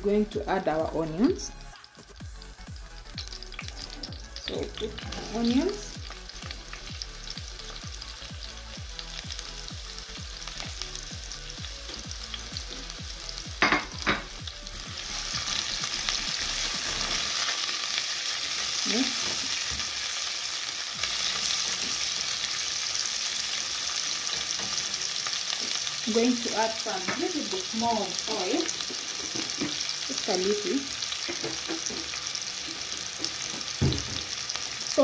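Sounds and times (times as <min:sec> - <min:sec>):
onions sizzling in oil: 0:00.2 - 0:35.0.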